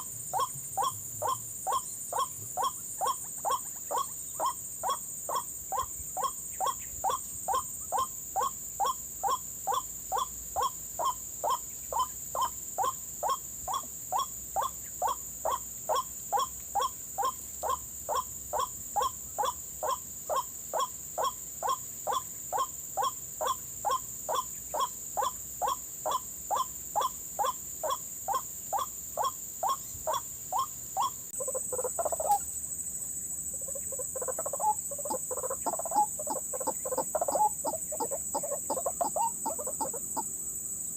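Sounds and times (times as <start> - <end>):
waterhen calling: 0.0 - 32.5, 33.5 - 40.3.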